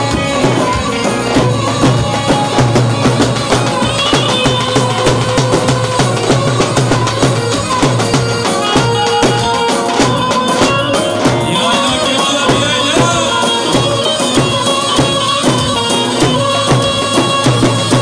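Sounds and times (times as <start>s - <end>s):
bass drum beating rhythm: 0.0s - 18.0s
folk dance melody: 0.0s - 18.0s.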